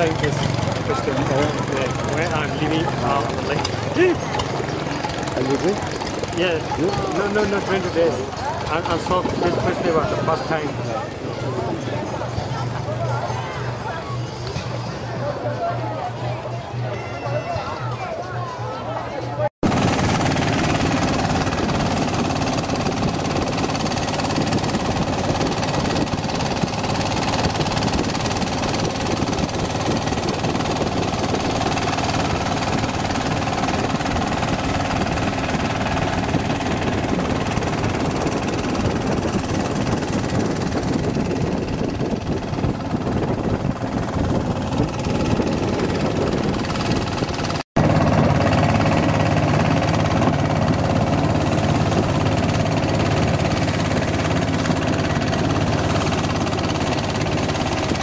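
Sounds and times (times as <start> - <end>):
water noise: 0.0 - 18.2, 19.6 - 58.0
motorboat engine running: 0.0 - 58.0
wind: 0.0 - 58.0.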